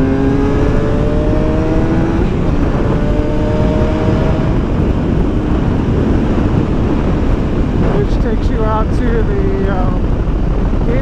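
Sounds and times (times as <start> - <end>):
motorcycle engine accelerating: 0.0 - 11.0
wind rush on microphone: 0.0 - 11.0.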